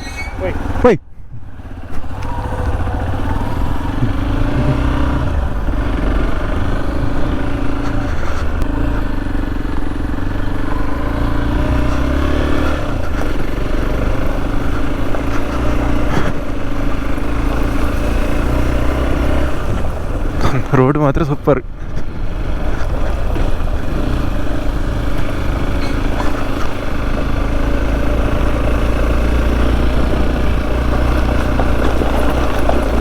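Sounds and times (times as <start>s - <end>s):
motorcycle engine running: 1.4s - 33.0s.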